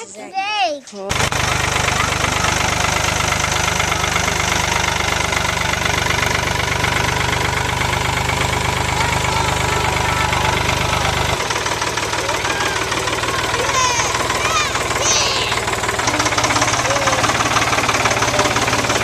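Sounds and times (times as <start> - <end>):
rattling vehicle engine running: 1.1 - 19.0.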